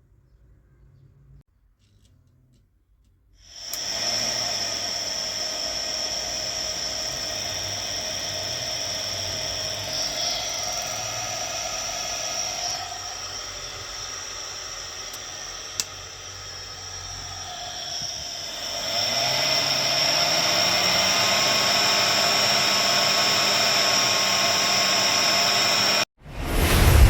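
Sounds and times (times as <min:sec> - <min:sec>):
boiler fan motor whining: 0:03.4 - 0:26.1.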